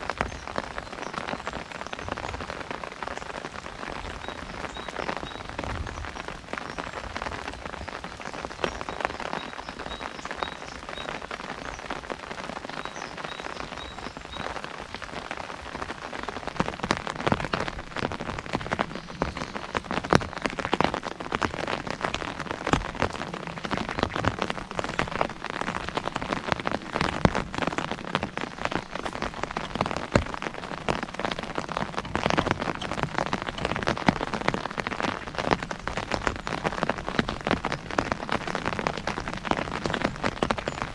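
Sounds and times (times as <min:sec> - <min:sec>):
rain on an umbrella: 0:00.0 - 0:40.9.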